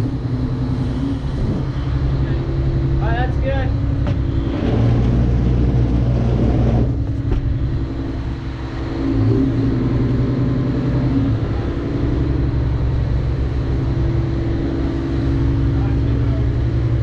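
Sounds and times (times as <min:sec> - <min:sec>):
diesel engines idling: 0:00.0 - 0:17.0.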